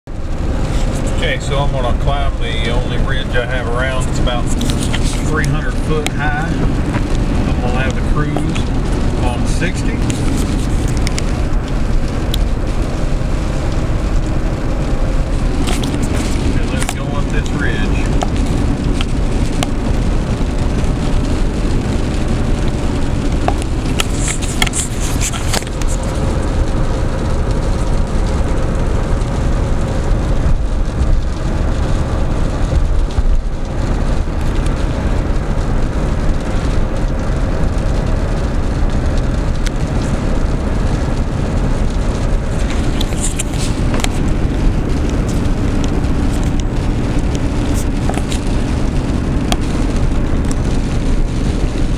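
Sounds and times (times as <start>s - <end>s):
road and tyre rumble: 0.0s - 51.9s
car engine hum: 0.1s - 51.9s.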